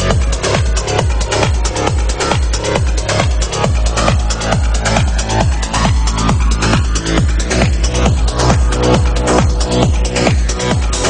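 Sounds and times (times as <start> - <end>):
electronic trance music: 0.0 - 11.0
kick drum beat: 0.0 - 11.0
synth chords: 0.0 - 11.0.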